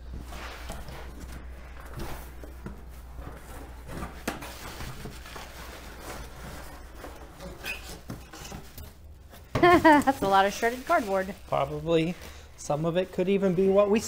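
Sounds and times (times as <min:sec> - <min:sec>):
paper packing rustling: 0:00.1 - 0:14.0.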